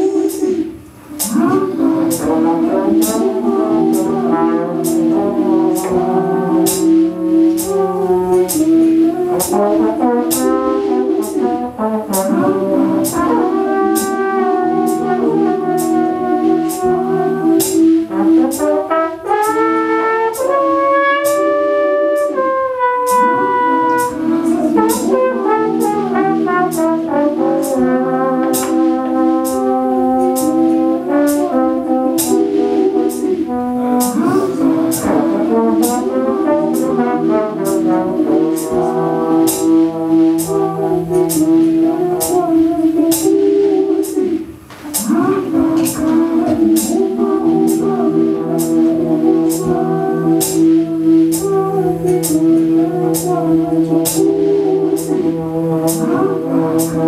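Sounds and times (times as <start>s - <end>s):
looped trombone music: 0.0s - 57.0s.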